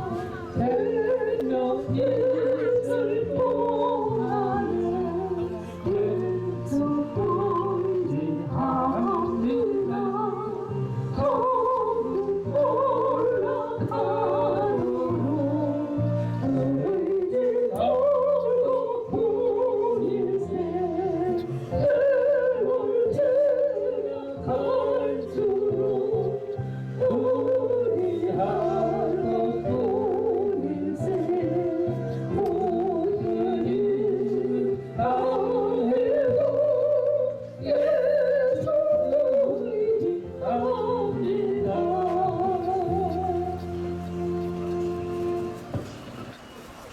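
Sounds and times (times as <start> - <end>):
person singing with vibrato: 0.0 - 45.8.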